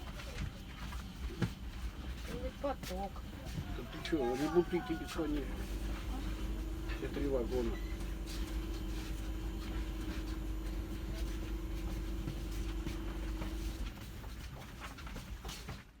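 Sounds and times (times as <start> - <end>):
train rumble: 0.0 - 15.4
steady hum: 0.2 - 15.6.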